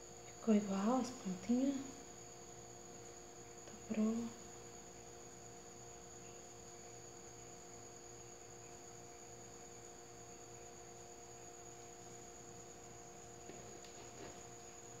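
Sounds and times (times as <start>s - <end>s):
faint electrical hum and hiss: 0.0s - 15.0s.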